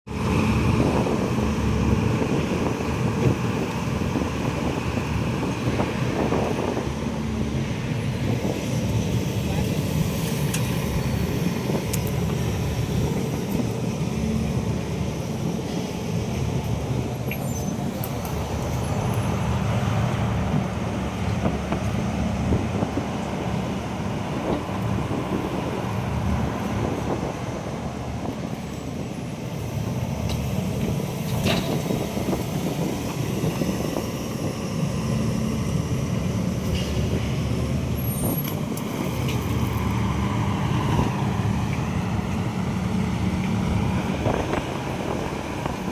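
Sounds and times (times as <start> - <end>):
diesel engine rumbling: 0.1 - 45.9.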